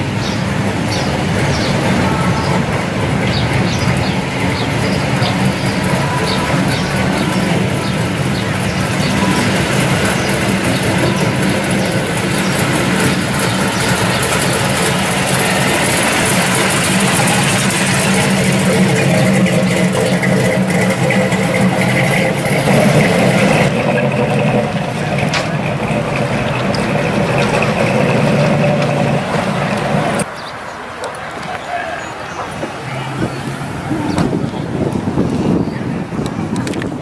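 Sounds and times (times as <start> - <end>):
car engine low rumble: 0.0 - 31.2, 32.5 - 37.0.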